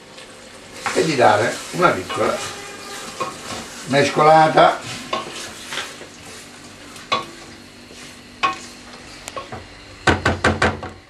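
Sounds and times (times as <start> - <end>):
food sizzling in oil: 0.0 - 10.2.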